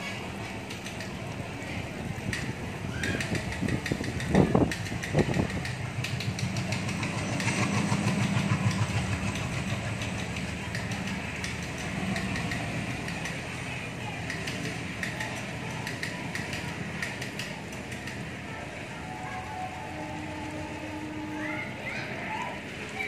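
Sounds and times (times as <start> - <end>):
diesel locomotive engine drone: 0.0 - 23.0
wagons rattling over track: 0.0 - 23.0.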